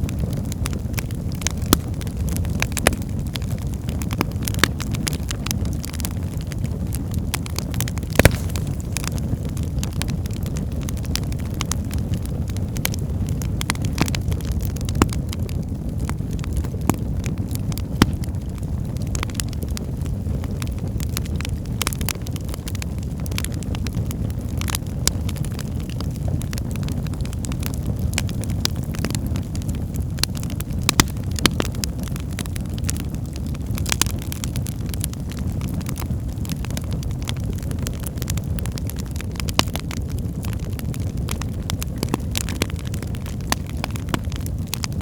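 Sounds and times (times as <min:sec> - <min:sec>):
logs crackling and popping: 0:00.0 - 0:45.0
low rumble of flames: 0:00.0 - 0:45.0.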